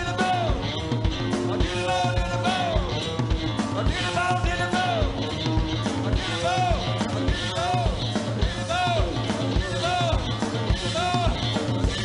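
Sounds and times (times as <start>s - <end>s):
driving drum beat: 0.0s - 12.0s.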